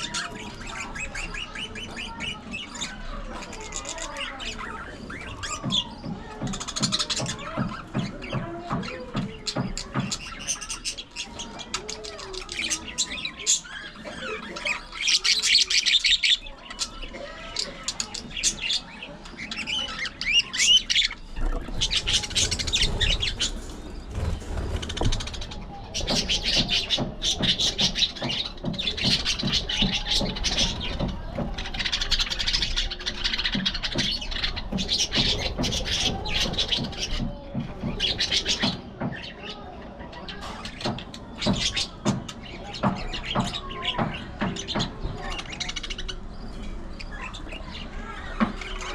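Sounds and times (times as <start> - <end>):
budgerigars chirping and warbling: 0.0 - 48.9.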